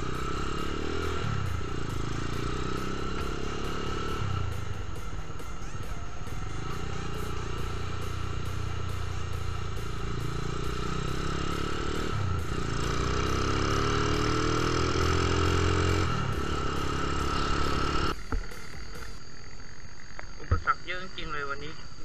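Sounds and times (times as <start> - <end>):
motorcycle engine revving: 0.0 - 21.4.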